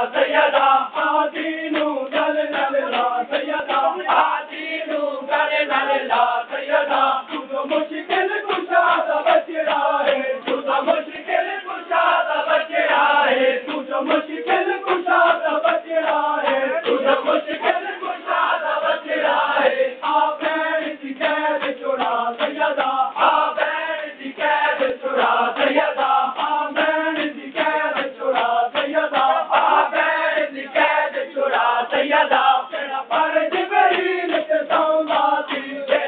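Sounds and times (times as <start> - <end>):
crowd of men chanting: 0.0 - 36.0
hands slapping on chests: 0.6 - 5.0, 6.9 - 11.6, 12.5 - 19.4, 20.0 - 36.0.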